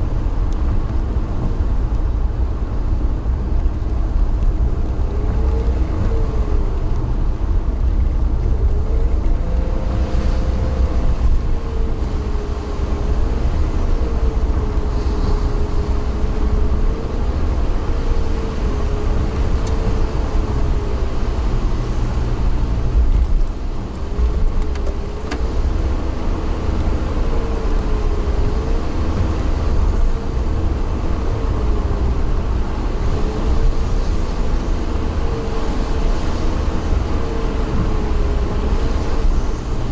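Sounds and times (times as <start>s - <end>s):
vehicle rumble with wavering whine: 0.0s - 39.9s.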